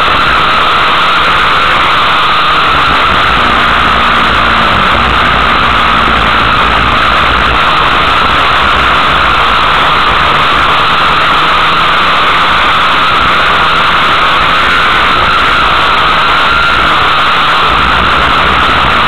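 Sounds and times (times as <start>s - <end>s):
race car engines distorted roar: 0.0s - 19.0s.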